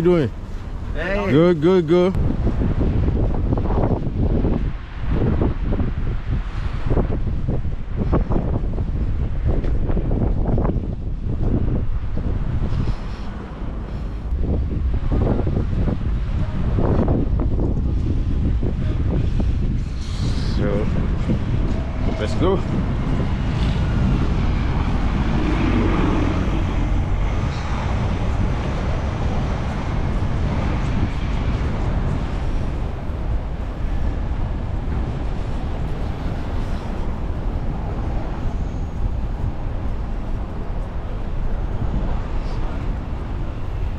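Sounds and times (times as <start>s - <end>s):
city street traffic: 0.0s - 43.9s
strong wind buffeting microphone: 0.0s - 43.9s.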